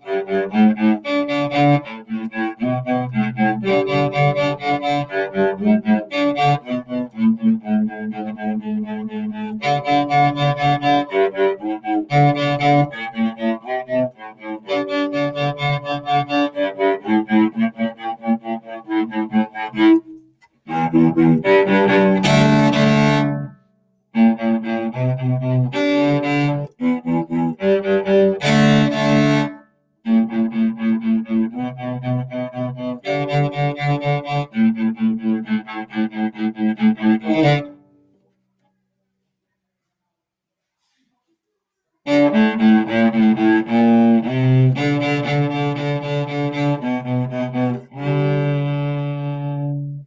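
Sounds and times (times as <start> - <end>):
solo cello bowed: 0.0 - 37.8, 42.1 - 50.0.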